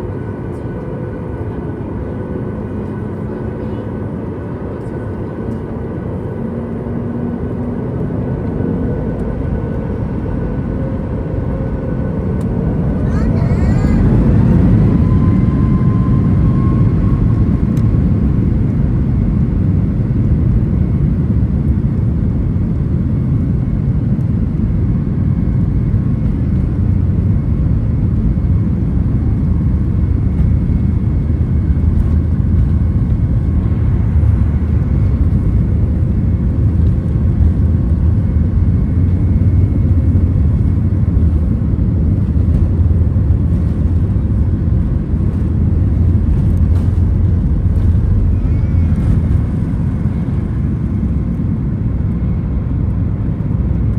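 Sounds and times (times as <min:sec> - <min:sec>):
aircraft cabin low rumble: 0:00.0 - 0:53.9.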